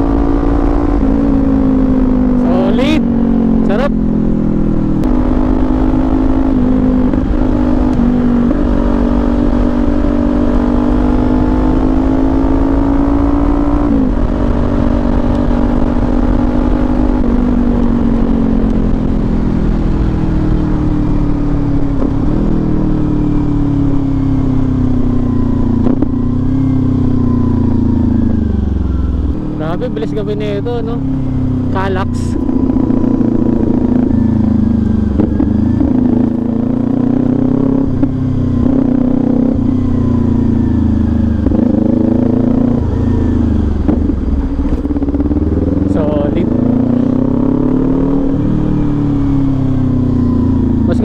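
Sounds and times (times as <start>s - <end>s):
motorcycle engine at speed: 0.0s - 51.0s.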